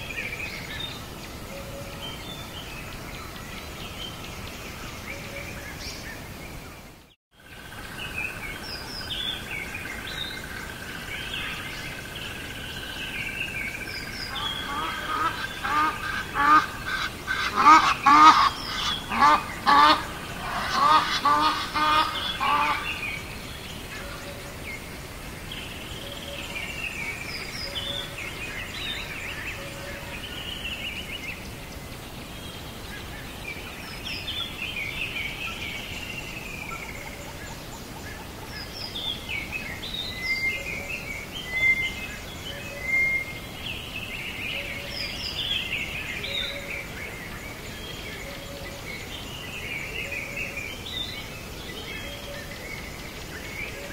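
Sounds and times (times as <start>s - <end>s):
birds calling and chirping: 0.0s - 53.9s.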